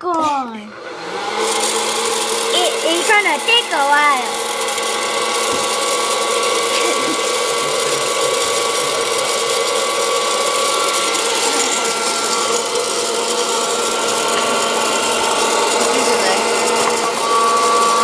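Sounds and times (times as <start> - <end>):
popcorn popper fan whir: 0.0 - 18.0.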